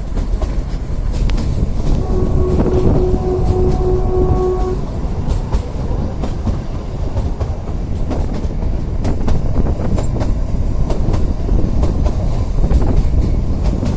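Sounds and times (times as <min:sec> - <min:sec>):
wheels clicking over rail joints: 0:00.0 - 0:02.1, 0:04.8 - 0:13.9
train rumbling: 0:00.0 - 0:13.9.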